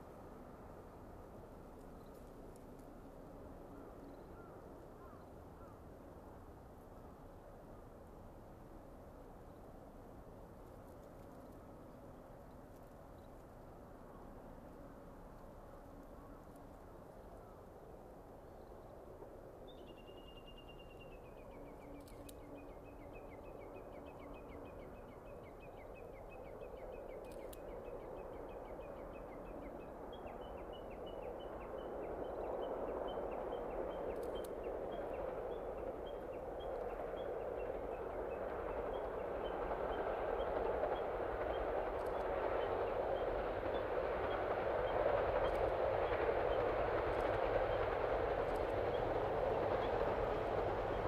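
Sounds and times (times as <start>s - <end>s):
train rumbling: 0.0s - 51.0s.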